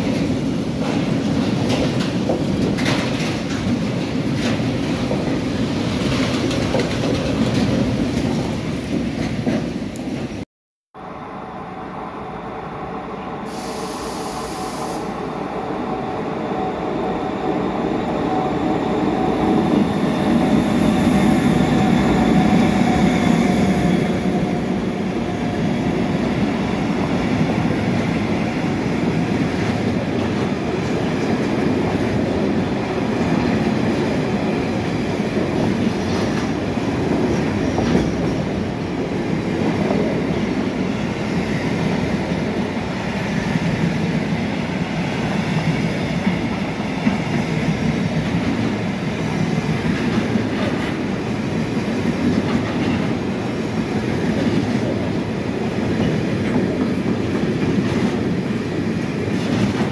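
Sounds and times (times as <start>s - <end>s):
steel wheels rumbling on rails: 0.0s - 10.4s, 13.4s - 59.9s.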